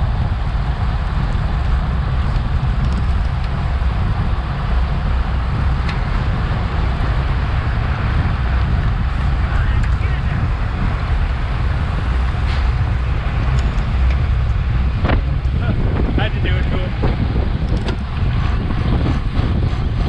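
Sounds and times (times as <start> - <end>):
road and air hiss: 0.0 - 20.0
wind buffeting microphone: 0.0 - 20.0.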